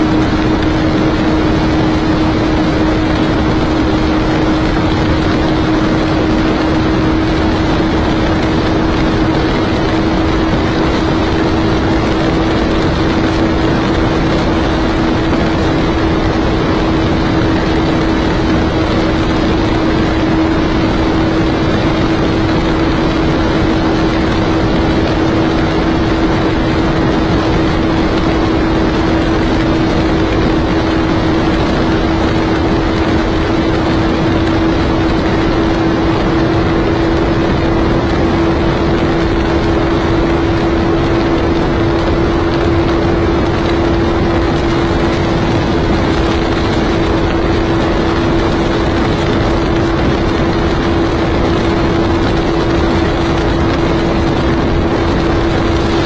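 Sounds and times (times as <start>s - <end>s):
heavy wind rush: 0.0s - 56.0s
motorcycle engine at top speed: 0.0s - 56.0s.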